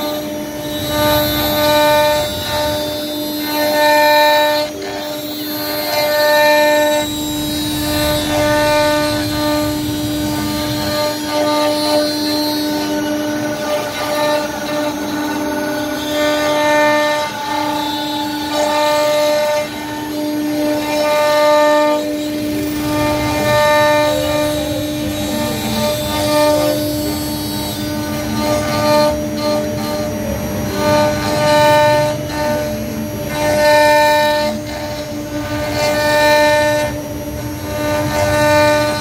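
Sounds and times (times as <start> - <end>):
cnc router whining: 0.0 - 39.0.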